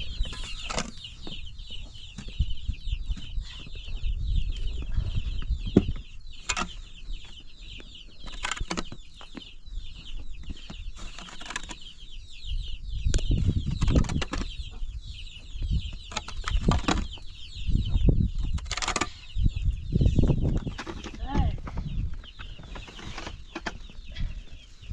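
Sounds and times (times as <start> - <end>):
chickens cheeping and clucking: 0.0 - 24.9.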